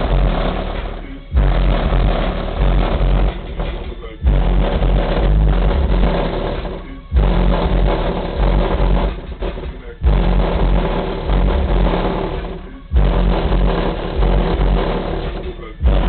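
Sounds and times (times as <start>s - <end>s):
bass-heavy music through subwoofers: 0.0s - 16.0s.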